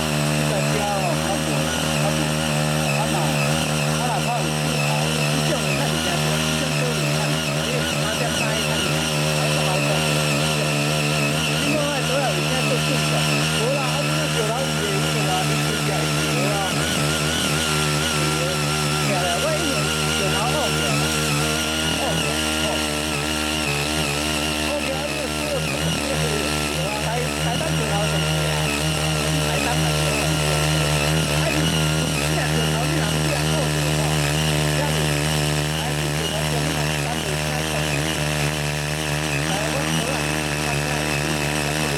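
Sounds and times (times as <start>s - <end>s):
cultivator engine running: 0.0s - 41.9s
rotary tines tilling soil: 0.0s - 41.9s.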